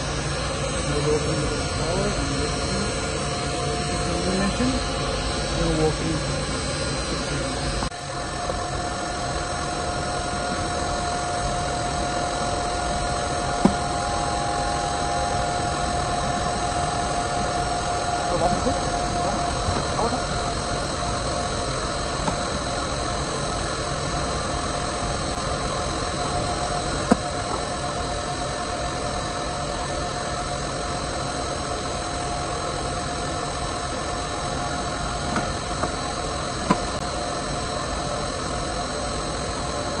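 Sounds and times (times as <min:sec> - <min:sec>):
juicer humming with high whine: 0:00.0 - 0:40.0.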